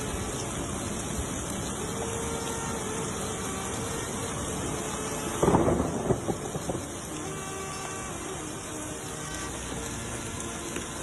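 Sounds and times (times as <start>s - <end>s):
heavy rain pouring on road: 0.0s - 11.0s.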